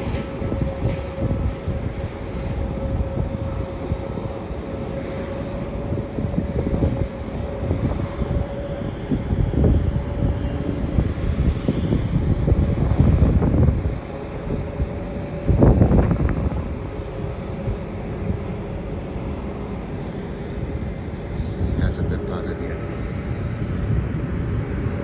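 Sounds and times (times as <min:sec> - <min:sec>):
jet engines rumbling: 0:00.0 - 0:25.0
wind buffeting microphone: 0:00.0 - 0:25.0.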